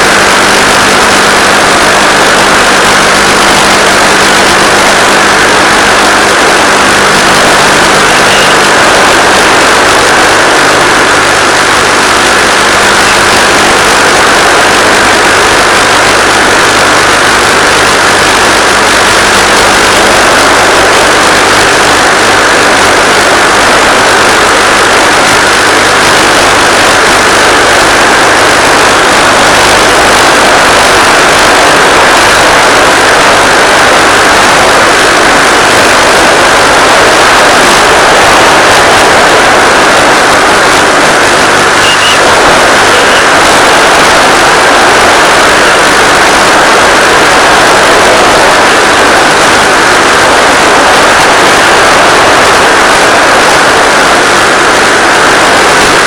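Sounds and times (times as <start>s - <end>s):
loud steady rushing noise: 0.0s - 56.0s.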